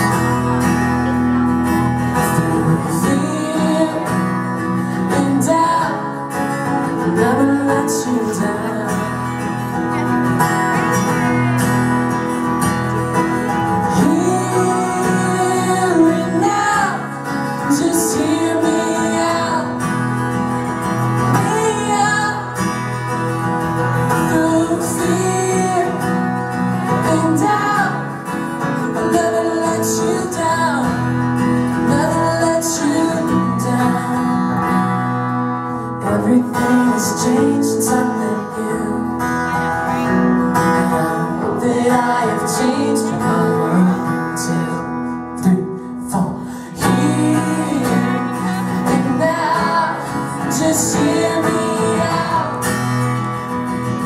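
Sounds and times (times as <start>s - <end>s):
acoustic guitars strumming: 0.0s - 54.0s
man singing: 1.9s - 35.1s, 35.7s - 54.0s.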